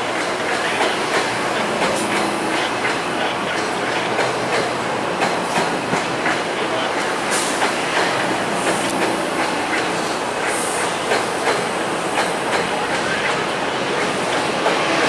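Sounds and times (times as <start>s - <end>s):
train rolling noise: 0.0s - 15.0s
wheels clacking over rail joints: 0.0s - 15.0s.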